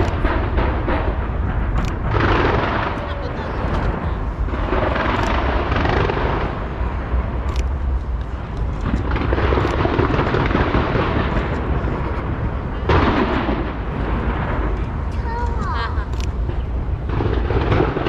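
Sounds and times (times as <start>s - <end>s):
fireworks rumble and crackle: 0.0s - 18.0s
sharp firework cracks: 0.0s - 18.0s.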